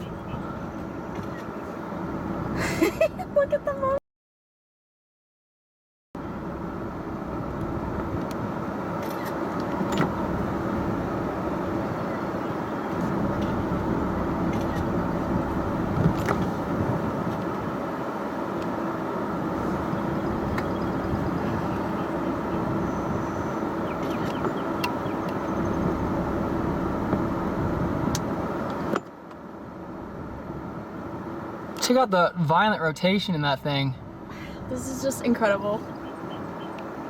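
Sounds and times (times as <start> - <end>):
engine and road rumble: 0.0 - 4.0, 6.2 - 37.0.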